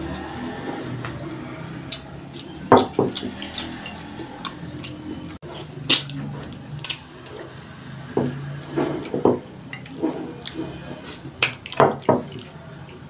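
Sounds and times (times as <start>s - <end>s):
wet chewing and lip smacks: 1.3s - 7.8s, 9.0s - 13.0s.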